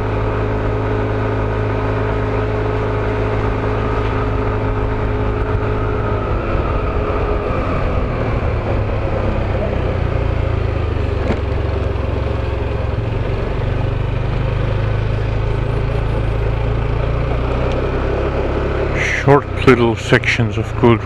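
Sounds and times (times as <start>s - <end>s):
motorbike engine running: 0.0s - 21.0s.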